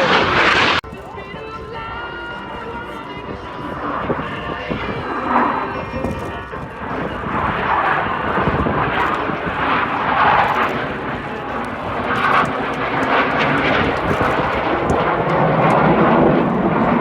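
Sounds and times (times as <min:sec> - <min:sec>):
aircraft engine: 0:00.0 - 0:17.0.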